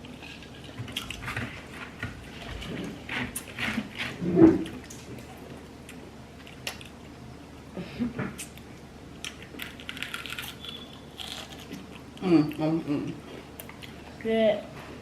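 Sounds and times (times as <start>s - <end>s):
crunchy fried food chewing: 0.0s - 7.7s, 8.4s - 14.2s.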